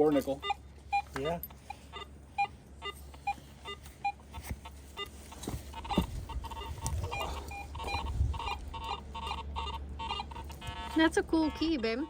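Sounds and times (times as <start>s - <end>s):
metal detector beeping: 0.0s - 12.0s.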